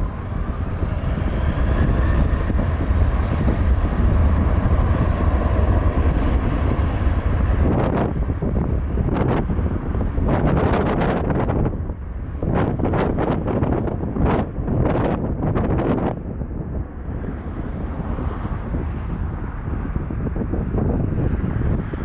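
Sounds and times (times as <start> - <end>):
airliner engine rumble: 0.0 - 22.0
wind buffeting microphone: 0.0 - 22.0.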